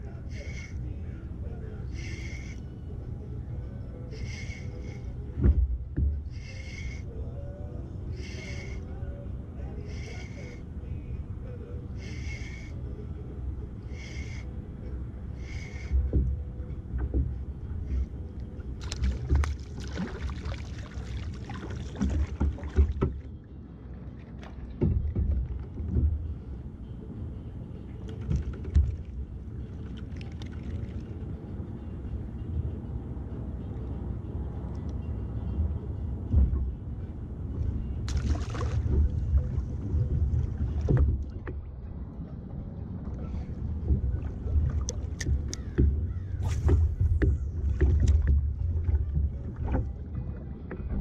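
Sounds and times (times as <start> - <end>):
waves lapping against a kayak: 0.2 - 3.0, 4.0 - 31.9, 36.1 - 51.0.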